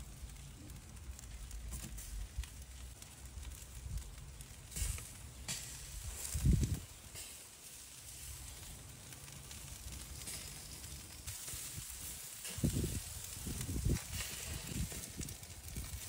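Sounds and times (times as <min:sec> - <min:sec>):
grill hissing and sizzling: 0:00.0 - 0:16.0.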